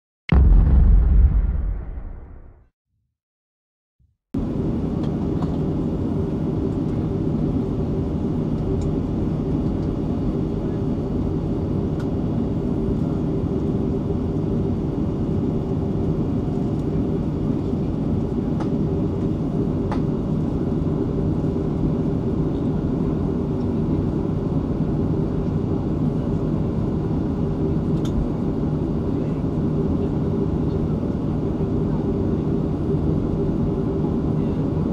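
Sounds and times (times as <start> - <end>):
jet engines rumbling in cabin: 4.4 - 34.9.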